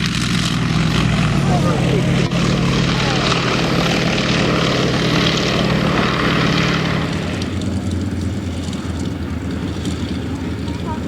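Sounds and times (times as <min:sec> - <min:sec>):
plane radial engine and propeller: 0:00.0 - 0:11.0.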